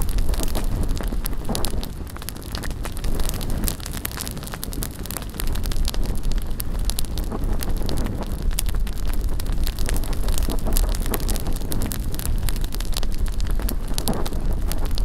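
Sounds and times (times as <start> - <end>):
bonfire crackling: 0.0 - 15.0
wind rumbling on microphone: 0.0 - 15.0.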